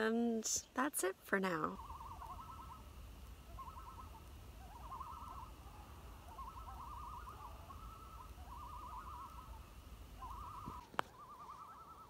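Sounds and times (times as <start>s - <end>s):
loons giving tremolo calls: 1.5s - 12.0s.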